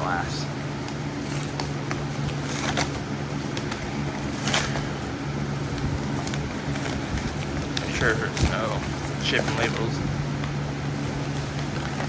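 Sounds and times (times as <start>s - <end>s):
steady low hum: 0.0s - 12.0s
packaging crinkling: 0.1s - 12.0s.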